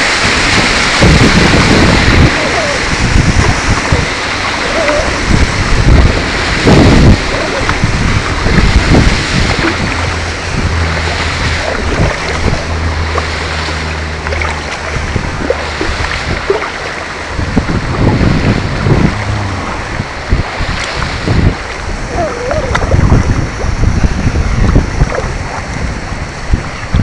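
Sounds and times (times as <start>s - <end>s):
water splashing against kayak hull: 0.0s - 27.0s
wind buffeting microphone: 0.0s - 27.0s.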